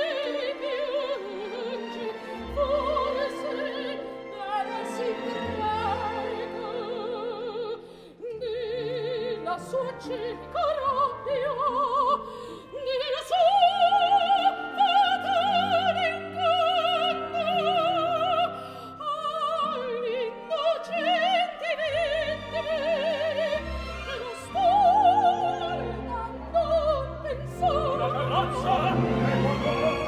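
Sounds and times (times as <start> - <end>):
operatic soprano singing: 0.0 - 30.0.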